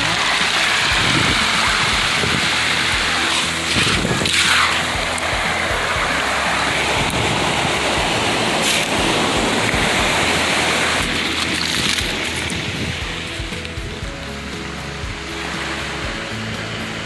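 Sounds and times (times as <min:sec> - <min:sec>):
surf washing over pebbles: 0:00.0 - 0:17.0.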